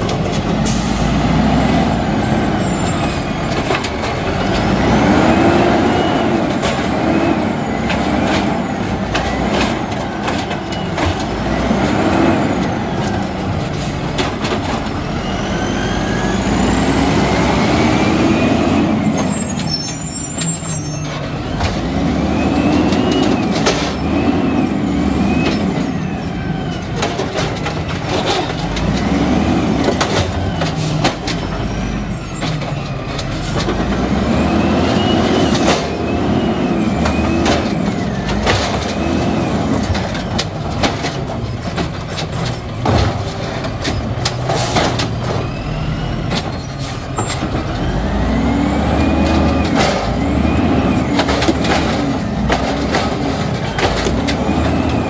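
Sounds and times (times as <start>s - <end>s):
diesel engine revving: 0.0s - 55.0s
knocks from carts and rubbish: 0.0s - 55.0s.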